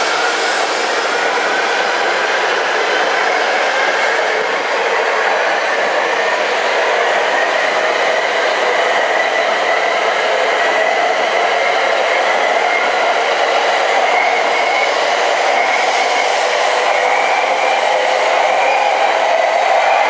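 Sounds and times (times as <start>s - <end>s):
high-speed train passing: 0.0s - 20.0s
train whine rising in pitch: 0.0s - 20.0s.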